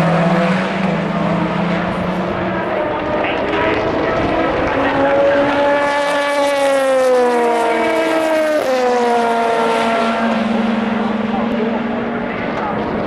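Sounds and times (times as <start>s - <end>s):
race car engine slowing: 0.0s - 13.0s.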